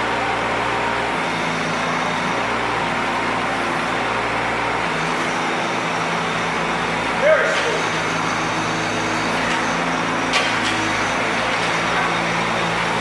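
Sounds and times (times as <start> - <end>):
mini excavator diesel engine running: 0.0 - 13.0.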